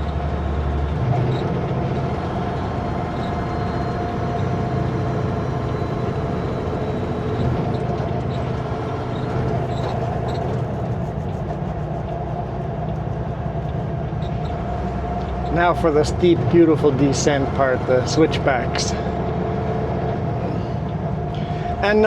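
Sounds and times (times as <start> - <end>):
road noise: 0.0 - 22.0
truck diesel engine running: 0.0 - 22.0.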